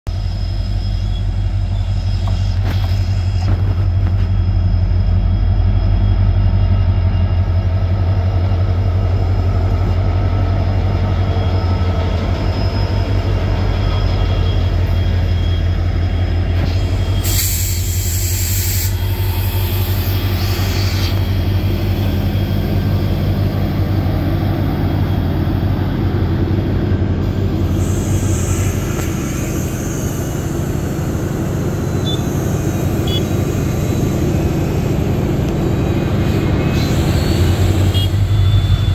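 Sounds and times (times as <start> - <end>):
diesel locomotive engine throb: 0.0 - 38.9
train wheels rumbling on rails: 0.1 - 38.9.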